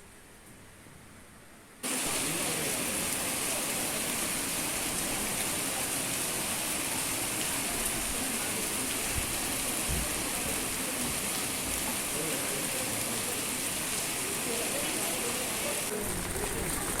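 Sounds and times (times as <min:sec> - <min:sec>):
rain falling: 0:01.8 - 0:17.0.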